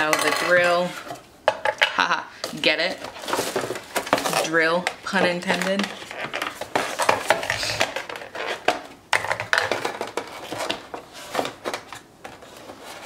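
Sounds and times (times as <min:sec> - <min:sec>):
plastic packaging rustling: 0:02.4 - 0:13.0.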